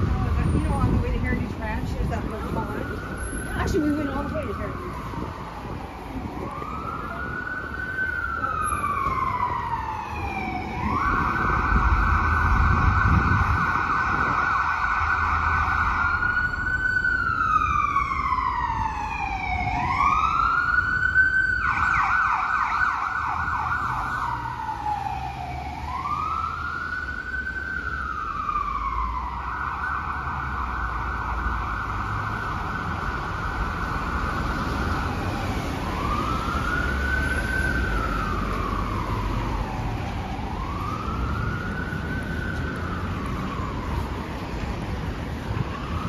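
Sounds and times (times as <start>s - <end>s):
low rumble of city traffic: 0.0s - 46.0s
siren wailing and yelping: 2.5s - 44.6s.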